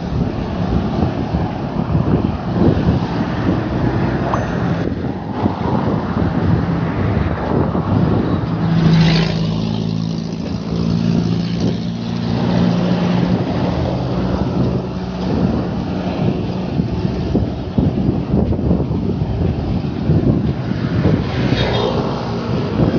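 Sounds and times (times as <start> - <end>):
road and wind noise: 0.0 - 22.9
vehicle engine humming: 0.0 - 22.9.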